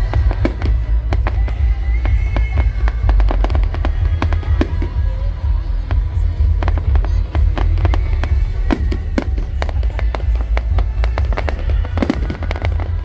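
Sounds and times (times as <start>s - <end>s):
fireworks bangs and crackles: 0.0s - 13.0s
steady low rumble: 0.0s - 13.0s.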